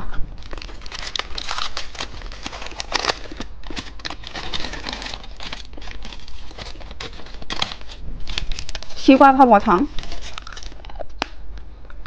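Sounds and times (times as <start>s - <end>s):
plastic wrapper crackling: 0.4s - 11.4s.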